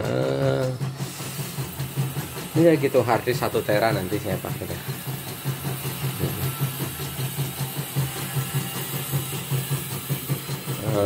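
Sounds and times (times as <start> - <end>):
embroidery machine stitching: 0.0 - 11.0.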